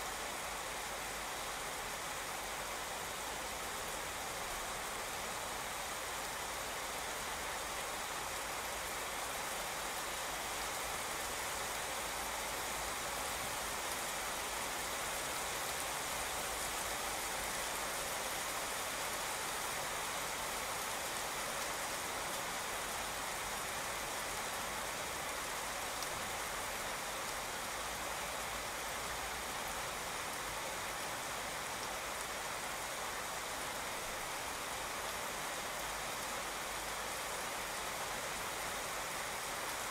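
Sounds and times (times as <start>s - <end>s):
steady rain on wet street: 0.0s - 39.9s.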